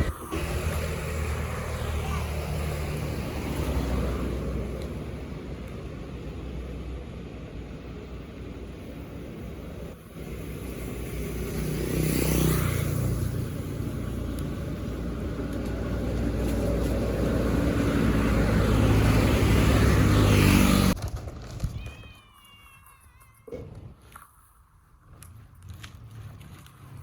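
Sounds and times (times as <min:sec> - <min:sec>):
vehicle engine and road noise: 0:00.0 - 0:22.2, 0:23.4 - 0:27.0.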